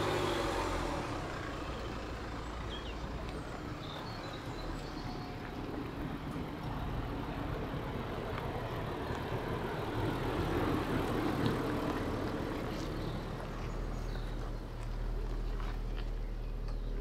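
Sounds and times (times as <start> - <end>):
vehicle engine at low revs: 0.0 - 17.0.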